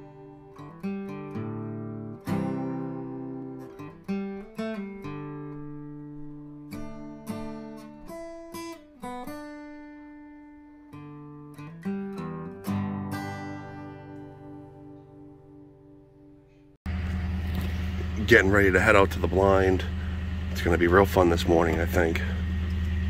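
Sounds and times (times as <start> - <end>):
acoustic guitar strummed chords: 0.0 - 23.0.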